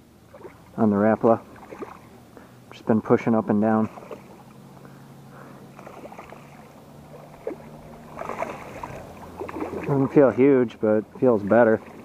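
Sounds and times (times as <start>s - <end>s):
river water running: 0.0s - 12.0s.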